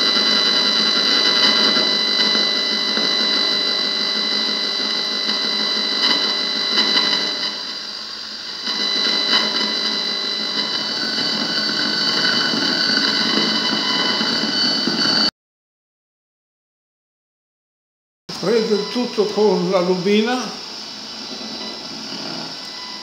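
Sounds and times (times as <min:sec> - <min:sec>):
noisy electrical buzz: 0:00.0 - 0:14.5, 0:18.3 - 0:23.0
high whistling tones: 0:00.0 - 0:15.3, 0:18.3 - 0:23.0.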